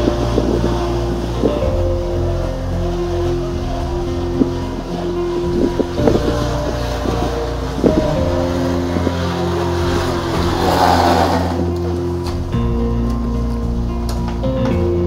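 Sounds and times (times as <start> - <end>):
background music with held notes: 0.0 - 15.0.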